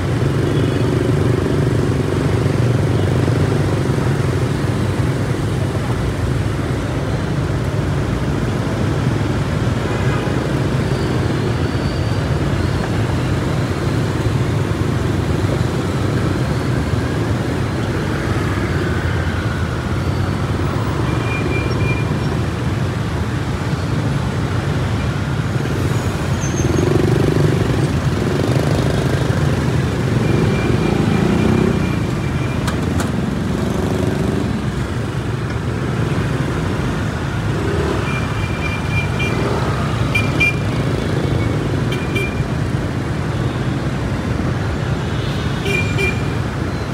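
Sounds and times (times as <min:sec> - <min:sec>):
traffic engines rumbling: 0:00.0 - 0:46.9.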